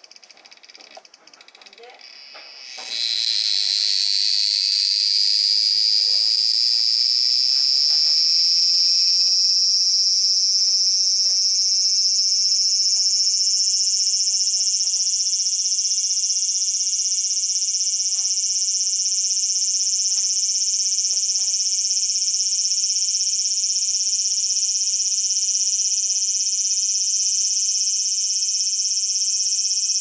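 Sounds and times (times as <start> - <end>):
cicada buzzing: 0.0 - 30.0.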